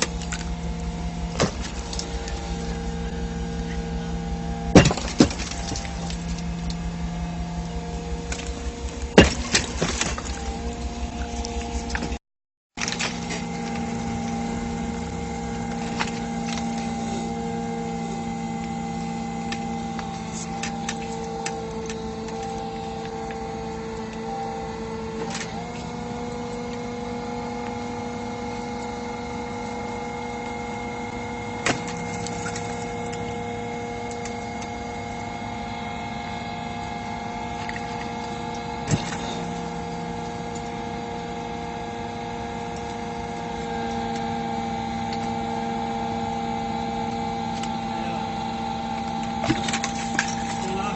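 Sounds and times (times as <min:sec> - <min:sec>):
hydraulic rig engine humming: 0:00.0 - 0:12.2, 0:12.8 - 0:50.9.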